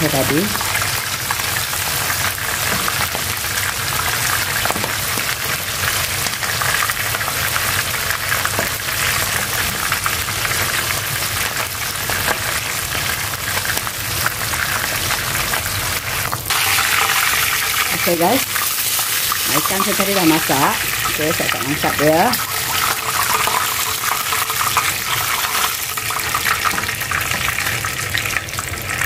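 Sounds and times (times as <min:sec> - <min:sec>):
oil sizzling in frying pan: 0:00.0 - 0:29.0.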